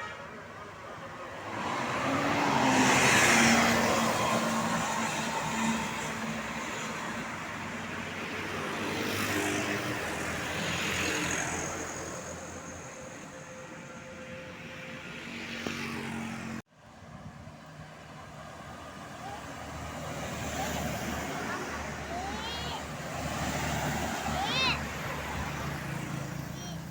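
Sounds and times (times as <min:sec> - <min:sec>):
vehicles driving past: 0:00.0 - 0:26.9
steady engine hum: 0:02.3 - 0:26.9.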